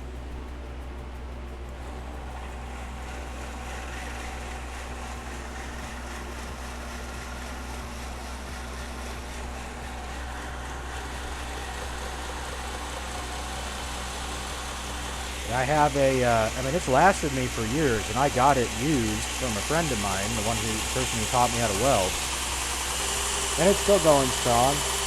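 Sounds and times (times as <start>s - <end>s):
constant low hum: 0.0s - 25.0s
fans rushing air: 0.0s - 25.0s.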